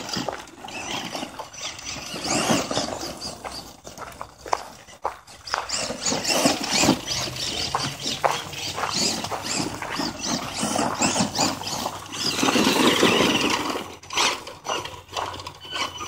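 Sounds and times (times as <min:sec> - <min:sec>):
rc truck motor whirring: 0:00.0 - 0:16.0
tyres crunching over dirt: 0:00.0 - 0:16.0.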